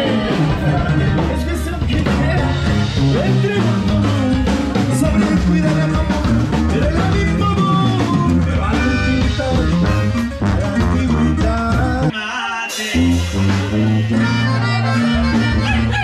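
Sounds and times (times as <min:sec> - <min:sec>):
accordion: 0:00.0 - 0:12.1, 0:13.0 - 0:16.0
live band playing: 0:00.0 - 0:16.0
person singing: 0:00.0 - 0:16.0
sousaphone bass line: 0:00.0 - 0:16.0.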